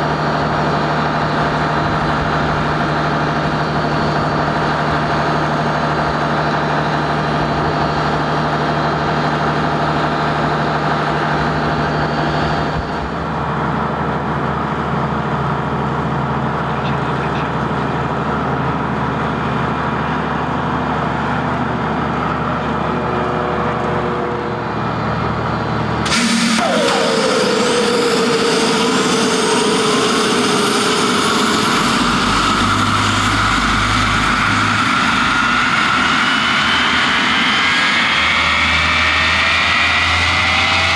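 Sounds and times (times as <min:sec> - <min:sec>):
jet engines running: 0:00.0 - 0:40.9
turbine whine: 0:00.0 - 0:40.9.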